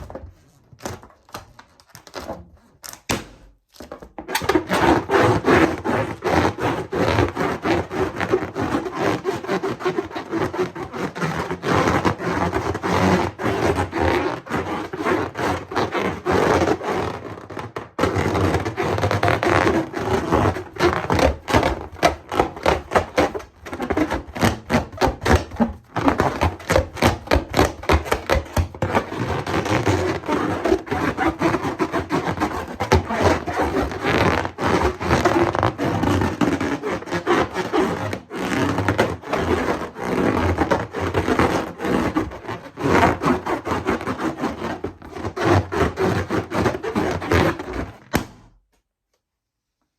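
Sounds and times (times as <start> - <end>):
rubber balloons being rubbed: 0.0 - 48.6.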